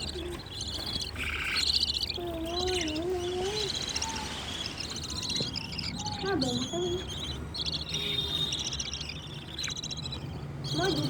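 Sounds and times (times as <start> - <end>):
baby birds chirping: 0.0 - 11.0.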